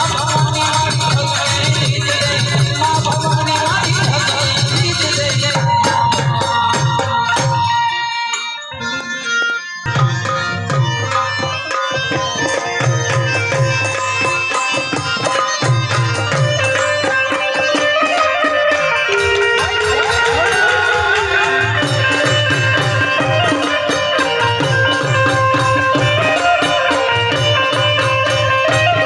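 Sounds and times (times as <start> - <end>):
hand drums beating: 0.0 - 29.0
harmonium melody: 0.0 - 29.0.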